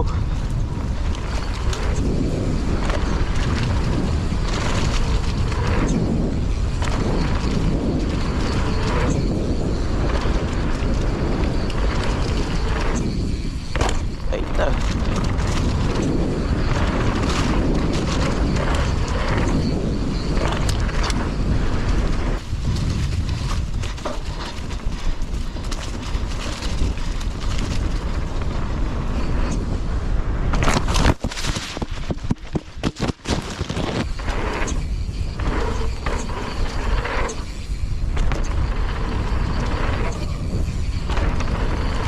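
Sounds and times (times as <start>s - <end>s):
bike rattling over rough ground: 0.0s - 42.0s
bike tyre noise: 0.0s - 42.0s
wind rushing over microphone: 0.0s - 42.0s.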